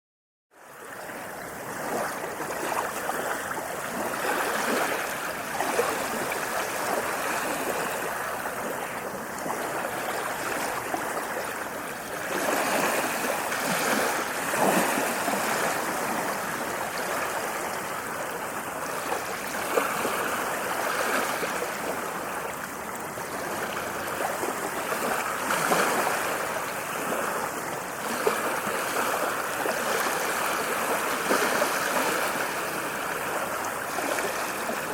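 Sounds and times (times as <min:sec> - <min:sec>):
ocean waves washing ashore: 0:00.6 - 0:34.9.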